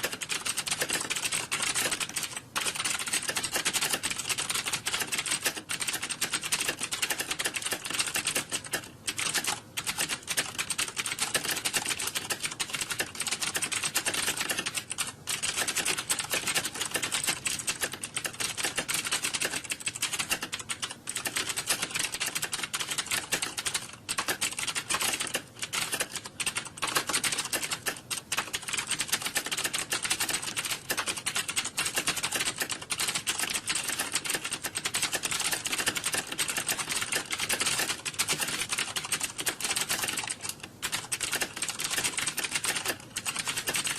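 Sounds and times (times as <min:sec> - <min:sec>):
fast keyboard typing: 0:00.0 - 0:43.9.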